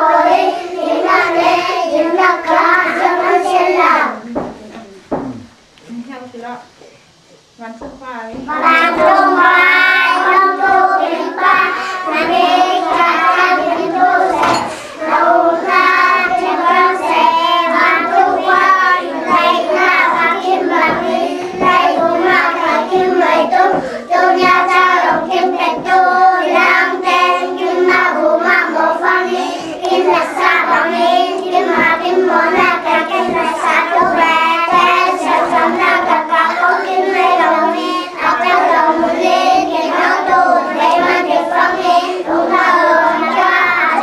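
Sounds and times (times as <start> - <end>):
children singing in unison: 0.0 - 4.2, 8.4 - 44.0.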